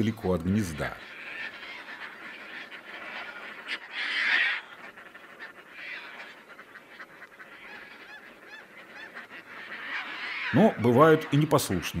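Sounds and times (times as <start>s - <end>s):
terns calling harshly: 0.0s - 12.0s.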